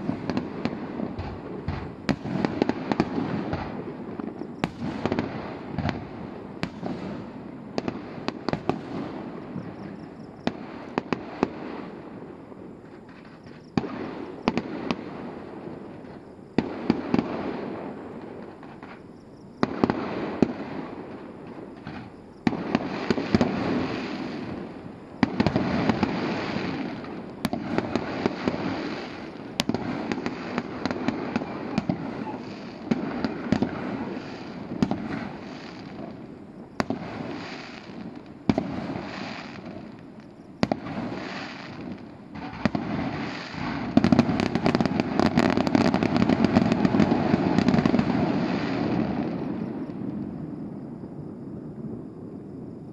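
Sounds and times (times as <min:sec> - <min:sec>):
fireworks bangs: 0:00.0 - 0:50.8.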